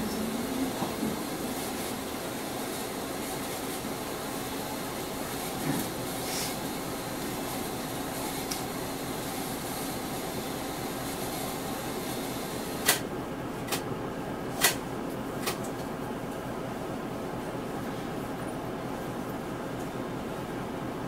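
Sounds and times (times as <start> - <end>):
bus engine and ventilation hum: 0.0 - 21.0.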